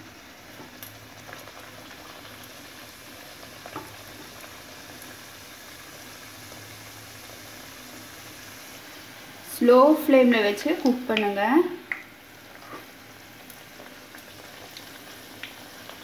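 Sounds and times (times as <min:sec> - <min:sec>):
flatbread sizzling in oil: 0:00.0 - 0:16.0.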